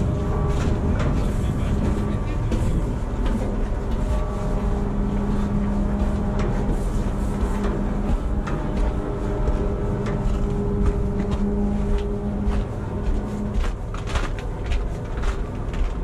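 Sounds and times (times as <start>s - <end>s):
held hum: 0.0s - 16.0s
ship engines droning: 0.0s - 16.0s.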